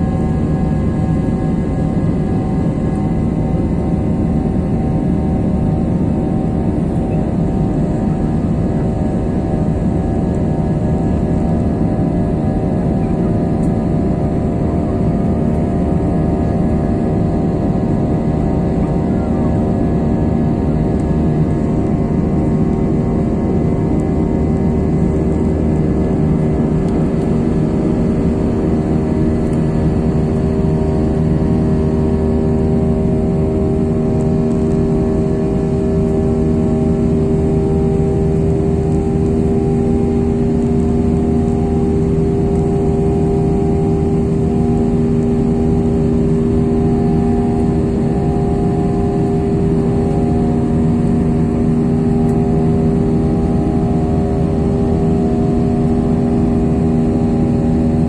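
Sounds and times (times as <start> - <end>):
jet engine drone in cabin: 0.0 - 58.0
steady hums: 0.0 - 58.0.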